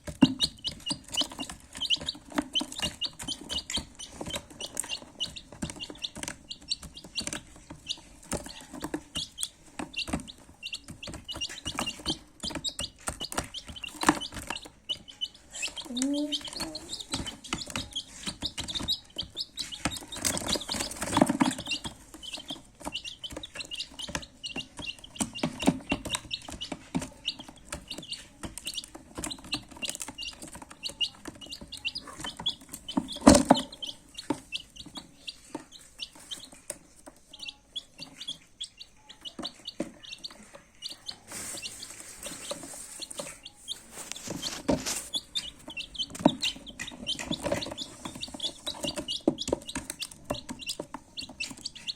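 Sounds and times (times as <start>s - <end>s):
baby chicks peeping: 0.0s - 51.9s.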